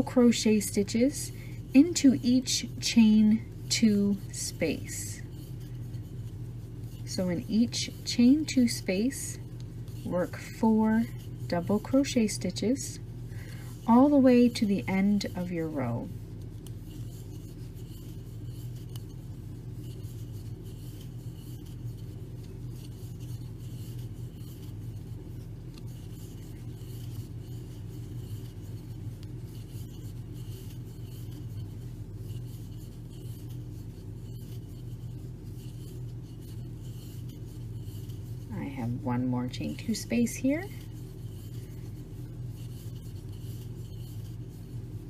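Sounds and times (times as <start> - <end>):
low hum: 0.0 - 45.0
yarn scratching over crochet hook: 0.0 - 45.0.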